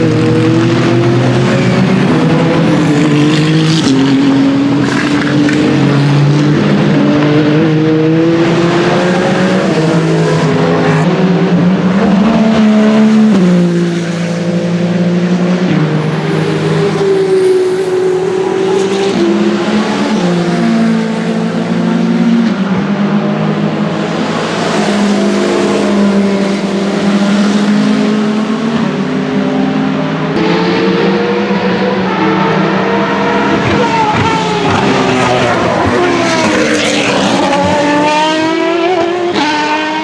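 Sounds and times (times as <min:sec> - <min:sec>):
race cars running past: 0:00.0 - 0:40.0.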